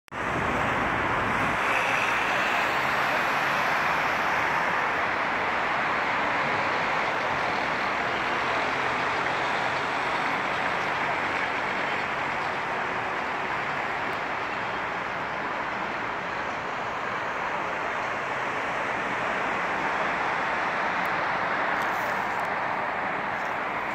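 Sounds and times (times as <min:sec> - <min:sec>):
highway traffic noise: 0:00.1 - 0:23.9.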